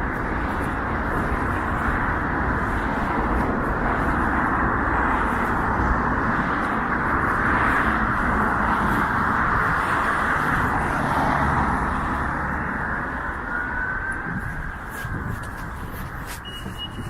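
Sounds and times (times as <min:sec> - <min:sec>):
busy road traffic: 0:00.0 - 0:17.0.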